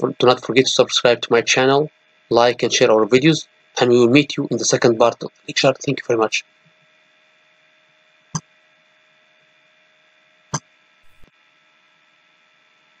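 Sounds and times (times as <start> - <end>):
faint electrical hum and hiss: 0.0 - 13.0.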